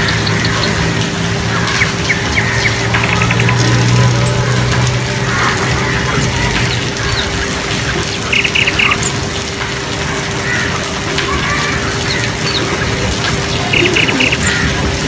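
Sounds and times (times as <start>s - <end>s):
birds chirping: 0.0s - 15.0s
steady rain: 0.0s - 15.0s.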